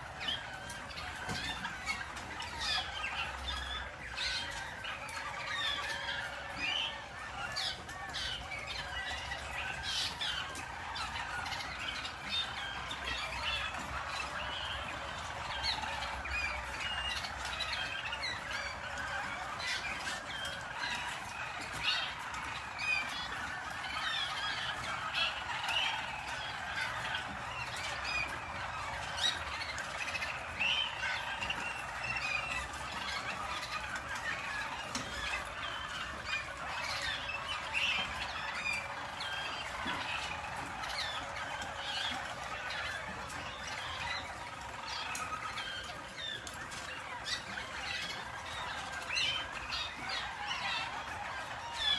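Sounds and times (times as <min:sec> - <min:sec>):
canaries singing rolling trills: 0:00.0 - 0:51.9.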